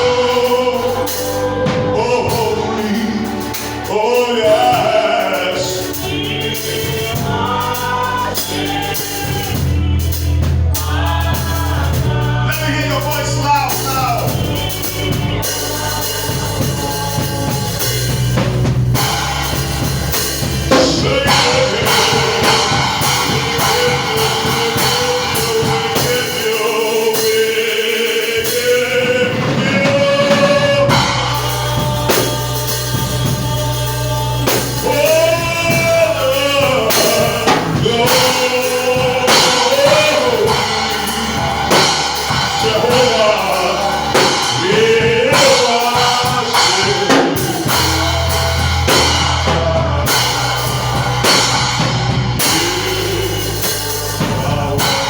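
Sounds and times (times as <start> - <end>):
person singing: 0.0 - 18.4, 20.2 - 55.0
band with drums and bass: 0.0 - 55.0.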